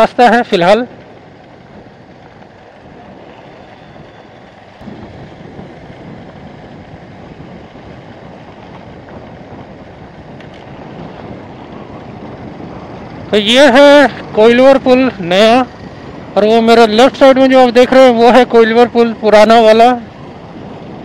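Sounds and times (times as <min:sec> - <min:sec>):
motorcycle engine running: 0:00.0 - 0:21.0
wind on microphone: 0:00.8 - 0:21.0.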